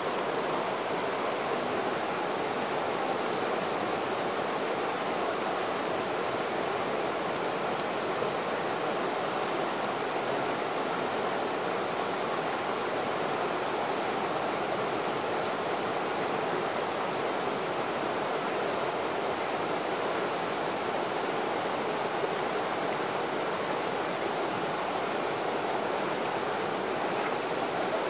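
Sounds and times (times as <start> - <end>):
river rushing over boulders: 0.0 - 28.0.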